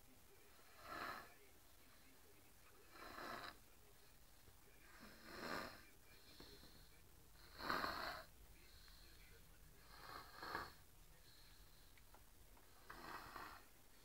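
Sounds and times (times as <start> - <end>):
person snoring softly: 0.3 - 14.0.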